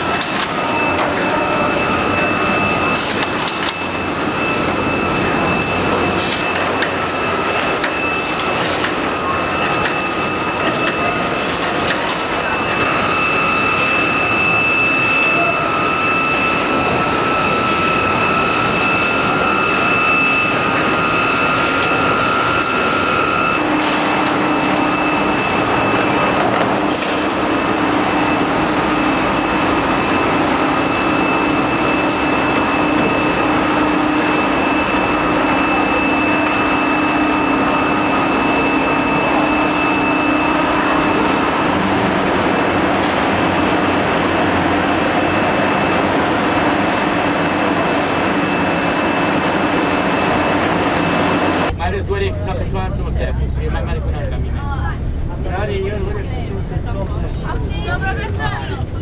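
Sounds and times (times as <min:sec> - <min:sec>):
production line machinery: 0:00.0 - 0:52.0.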